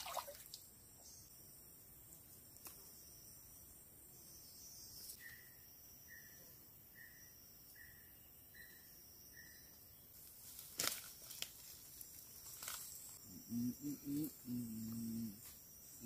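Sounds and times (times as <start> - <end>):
high insect buzz: 1.0 - 16.0.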